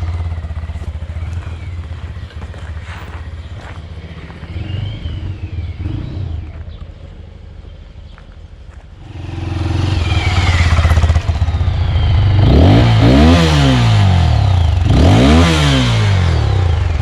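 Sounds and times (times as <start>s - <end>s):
motorcycle engine revving: 0.0s - 7.7s, 9.0s - 17.0s.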